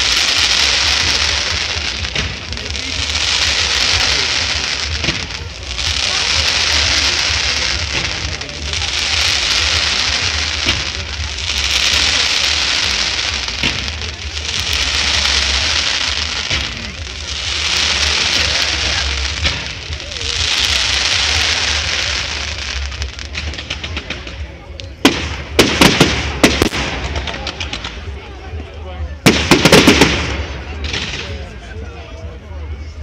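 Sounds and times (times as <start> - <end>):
firework cracks: 0.0 - 31.6
fireworks hissing and crackling: 0.0 - 33.0.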